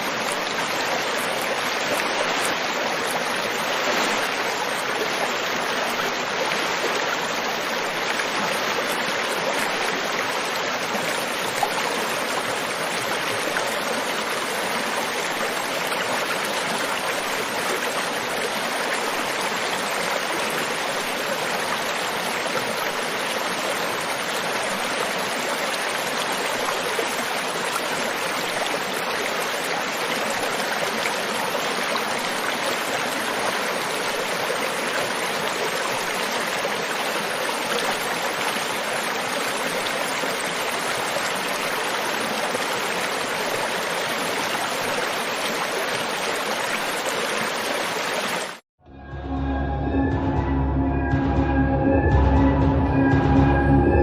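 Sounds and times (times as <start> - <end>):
river water flowing over rocks: 0.0 - 48.6.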